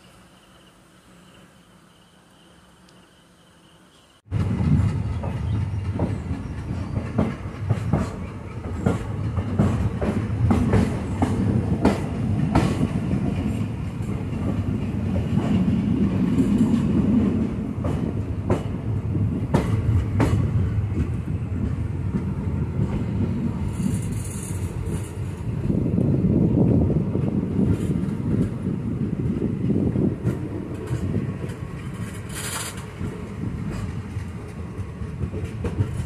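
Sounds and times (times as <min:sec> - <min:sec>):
train wheels rumbling on rail: 0:04.2 - 0:36.0
wheels clacking over rail joints: 0:04.3 - 0:36.0.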